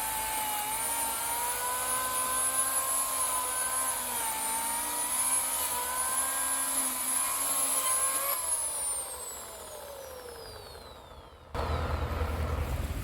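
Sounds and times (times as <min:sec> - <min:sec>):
electric chainsaw motor whine: 0:00.0 - 0:12.1.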